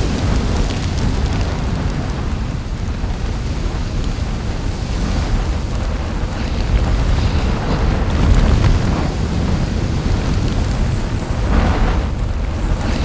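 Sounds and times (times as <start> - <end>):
faint scattered crackles: 0.0 - 13.0
volcanic eruption rumble: 0.0 - 13.0.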